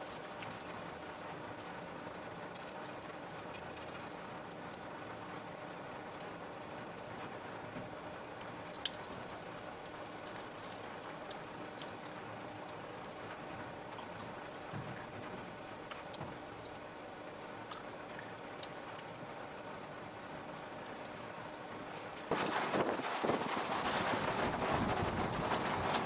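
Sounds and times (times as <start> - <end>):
molten metal crackling and fizzing: 0.0 - 26.0.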